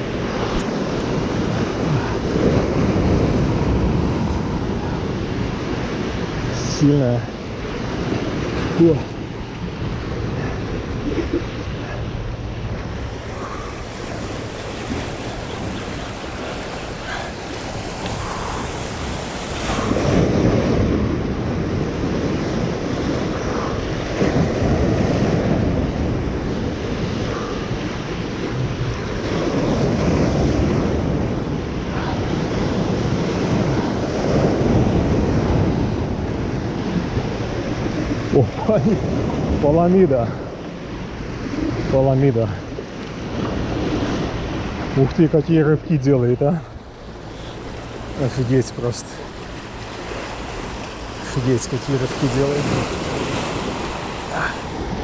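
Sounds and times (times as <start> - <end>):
surf washing over rocks: 0.0 - 55.0
wind buffeting microphone: 0.0 - 55.0.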